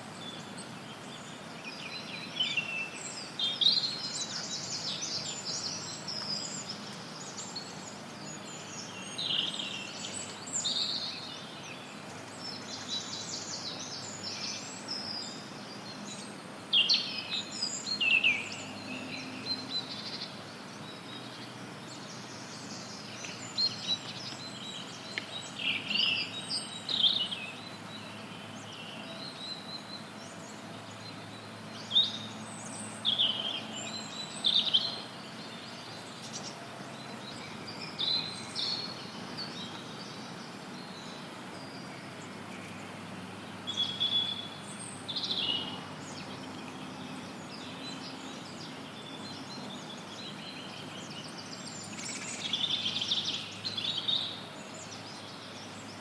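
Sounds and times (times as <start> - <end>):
songbirds chirping and trilling: 0.0 - 56.0
white noise hiss: 0.0 - 56.0.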